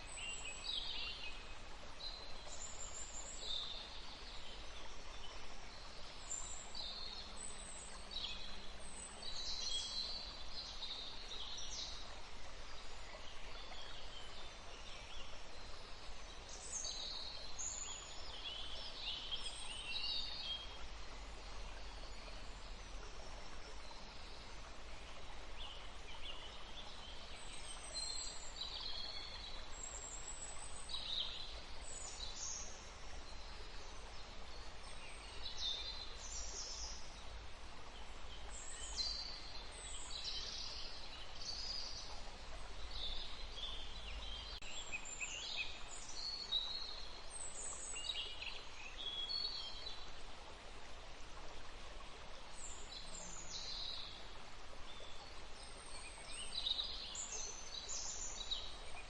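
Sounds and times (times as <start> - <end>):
songbirds chirping and trilling: 0.0 - 50.7.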